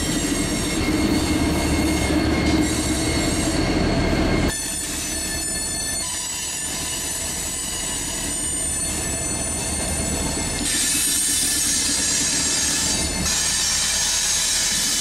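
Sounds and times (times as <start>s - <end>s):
steel wheels squealing: 0.0s - 15.0s.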